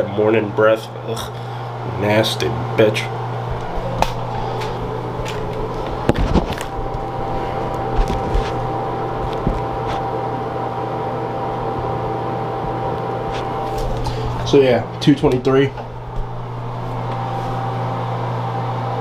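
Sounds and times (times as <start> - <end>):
low mechanical hum: 0.0 - 19.0
thin steady whine: 0.0 - 19.0.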